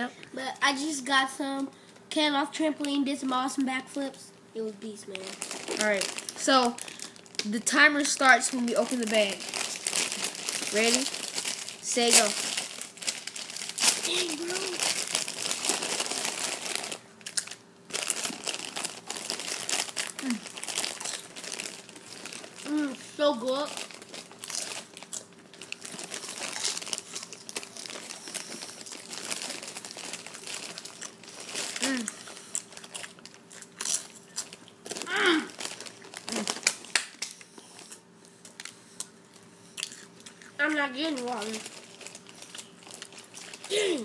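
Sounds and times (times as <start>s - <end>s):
plastic chip bag crinkling: 4.9s - 44.0s.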